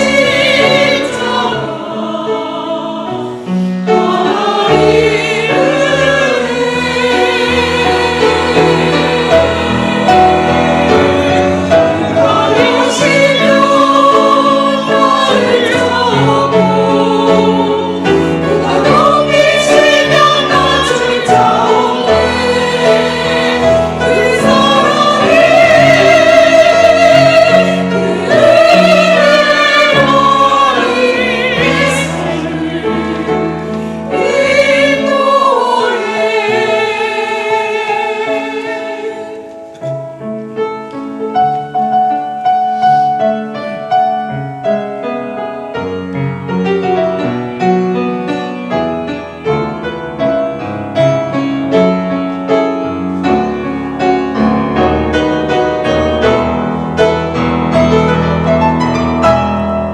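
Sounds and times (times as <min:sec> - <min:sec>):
choir singing a hymn: 0:00.0 - 0:40.2, 0:46.7 - 0:59.9
piano accompaniment: 0:00.0 - 0:59.9.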